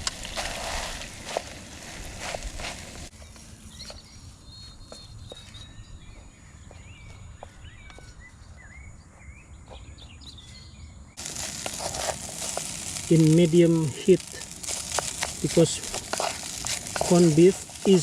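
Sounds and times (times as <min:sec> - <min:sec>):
small birds chirping: 0:03.1 - 0:18.0.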